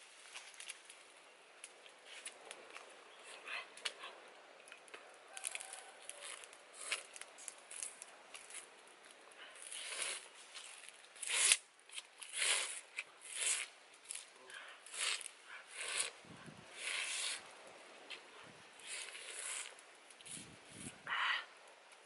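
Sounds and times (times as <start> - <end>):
faint crackles: 0.0 - 22.0
crunchy chewing of food: 1.6 - 20.9.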